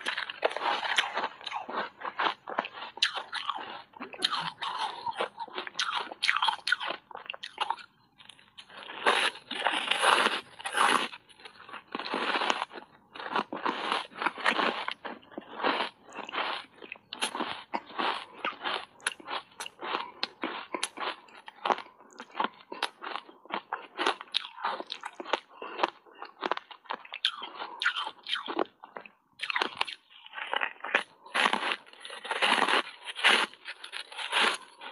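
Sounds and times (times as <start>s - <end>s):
ice crunching between teeth: 0.0s - 34.9s.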